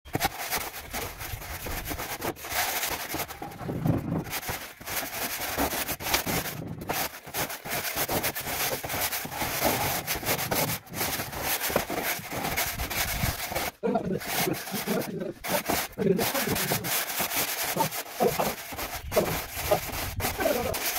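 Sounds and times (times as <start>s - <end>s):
straightedge scraping through mortar: 0.1s - 20.9s.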